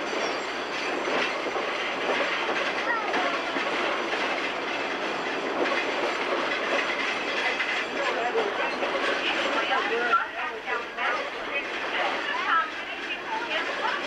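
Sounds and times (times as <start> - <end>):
train wheels rumbling and clattering: 0.0 - 14.0.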